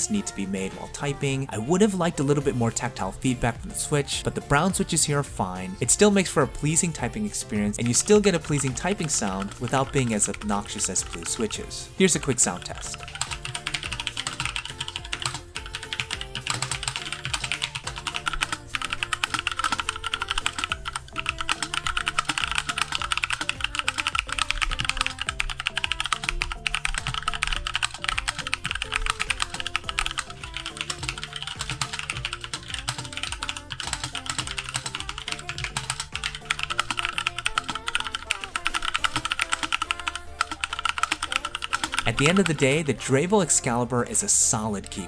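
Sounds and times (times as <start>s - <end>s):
background music: 0.0s - 45.0s
mechanical keyboard typing: 5.8s - 43.8s.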